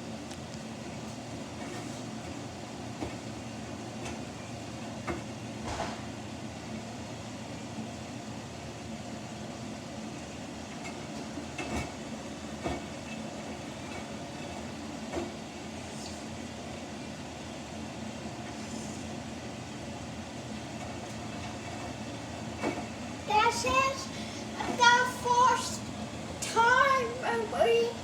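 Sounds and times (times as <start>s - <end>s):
washing machine humming: 0.0s - 28.0s.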